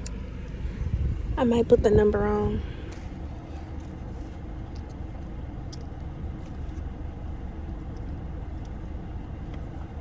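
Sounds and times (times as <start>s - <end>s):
car low rumble: 0.0s - 10.0s.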